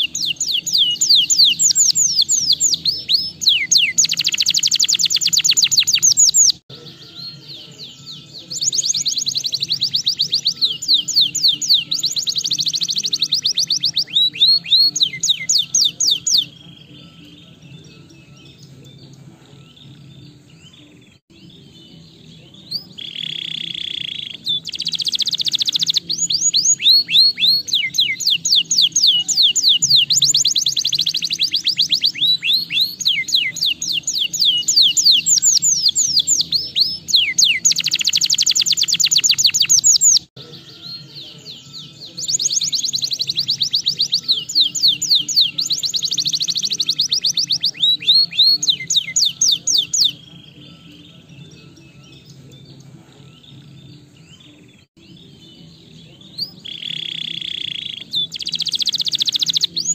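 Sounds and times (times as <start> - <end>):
canary singing fast trills: 0.0 - 59.9.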